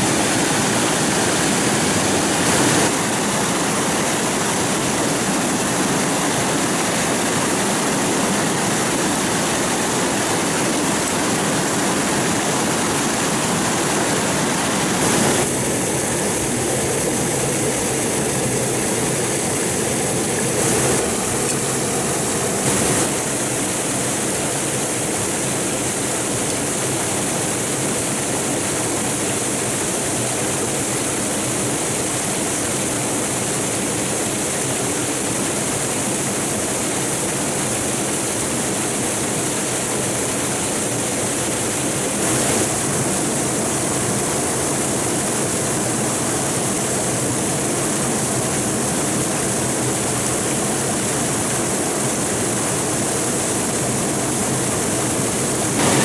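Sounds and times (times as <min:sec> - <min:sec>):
water rushing in a stream: 0:00.0 - 0:56.0.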